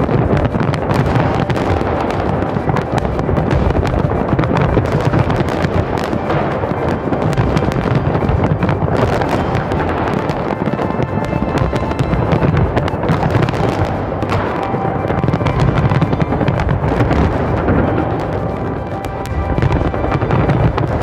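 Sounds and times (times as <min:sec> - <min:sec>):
fireworks bursting: 0:00.0 - 0:21.0
fireworks crackling: 0:00.0 - 0:21.0.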